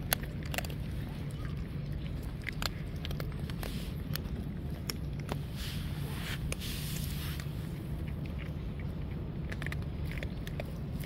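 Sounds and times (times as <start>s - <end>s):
cats crunching dry kibble: 0.0s - 11.0s
low background rumble: 0.0s - 11.0s.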